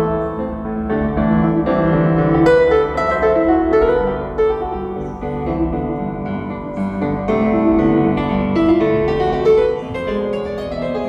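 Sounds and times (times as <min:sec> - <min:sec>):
piano music through loudspeakers: 0:00.0 - 0:11.0.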